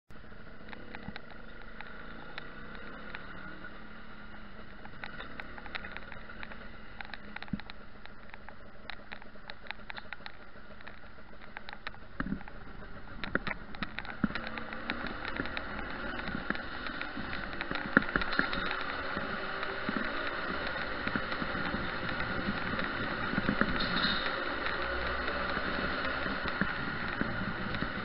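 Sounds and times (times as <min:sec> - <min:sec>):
motorcycle engine running: 0:00.2 - 0:28.0
sharp clicks and knocks: 0:00.2 - 0:28.0.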